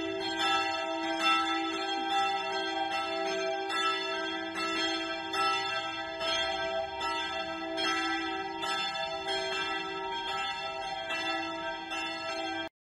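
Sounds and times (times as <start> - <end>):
church bells pealing: 0.0 - 12.7.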